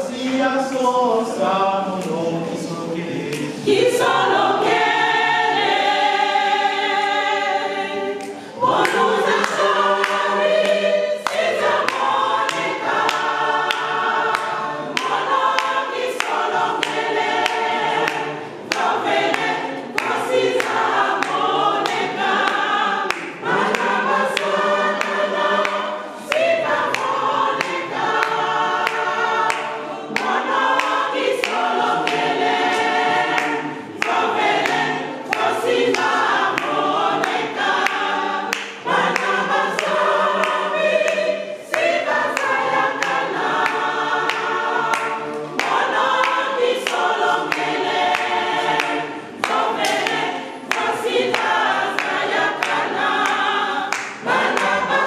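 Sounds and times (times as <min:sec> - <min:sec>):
choir singing a hymn: 0:00.0 - 0:55.0
regular sharp beat: 0:00.2 - 0:55.0.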